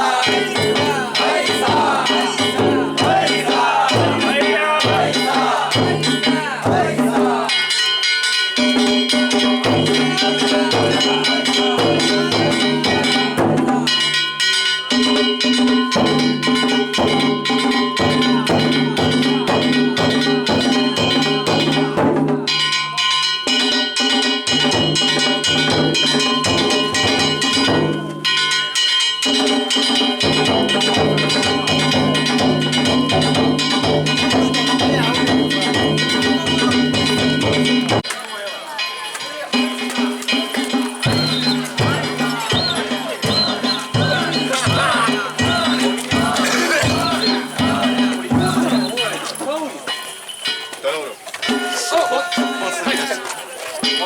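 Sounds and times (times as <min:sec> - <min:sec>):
taiko drums beating fast rhythm: 0:00.0 - 0:38.1, 0:39.4 - 0:50.6, 0:51.4 - 0:54.0.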